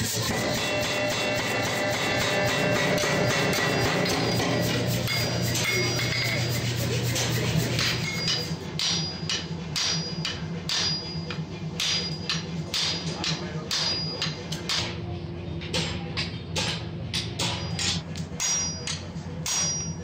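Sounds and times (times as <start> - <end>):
hammer striking steel on anvil: 0.2 - 15.0, 15.6 - 20.0.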